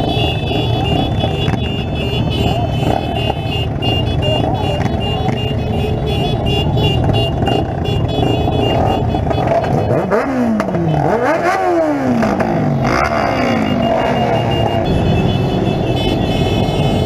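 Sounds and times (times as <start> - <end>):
motorcycle engine revving: 0.0 - 17.0
motorcycle engines idling: 0.0 - 17.0.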